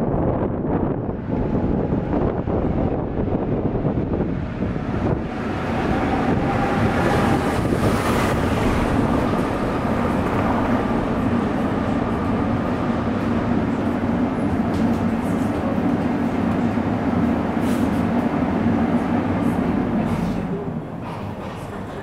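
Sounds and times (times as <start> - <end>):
tram wheels rumbling on rails: 0.0 - 22.0.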